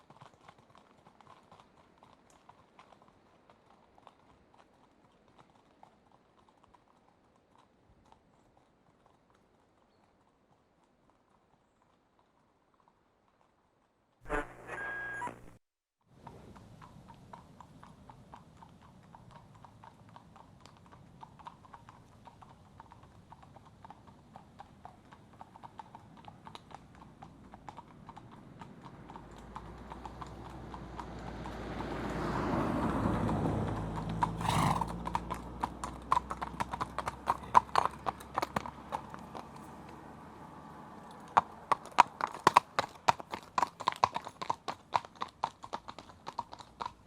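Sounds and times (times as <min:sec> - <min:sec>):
horse hooves clip-clopping: 0:00.0 - 0:14.6, 0:16.2 - 0:47.0.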